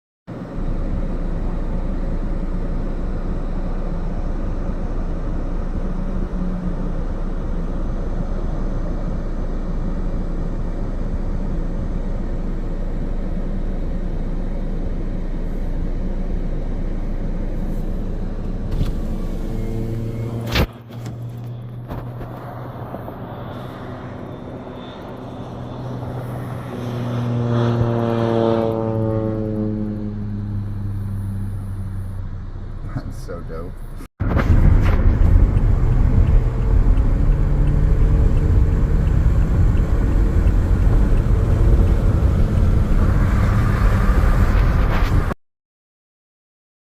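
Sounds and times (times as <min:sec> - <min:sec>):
droning engine: 0:00.3 - 0:45.4
moving vehicle rumble: 0:00.3 - 0:45.4.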